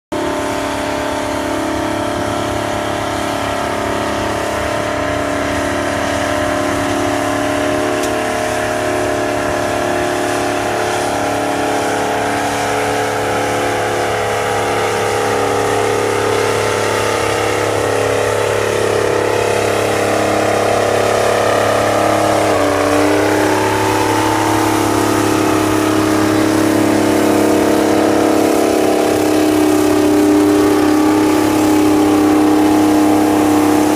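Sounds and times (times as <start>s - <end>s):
tractor diesel engine running hard: 0.1s - 33.9s.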